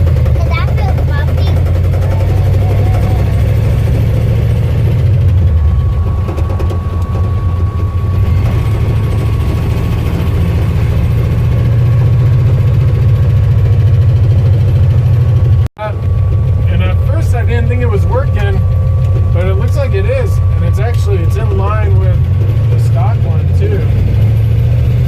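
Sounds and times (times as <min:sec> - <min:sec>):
truck engine and road drone: 0:00.0 - 0:25.0.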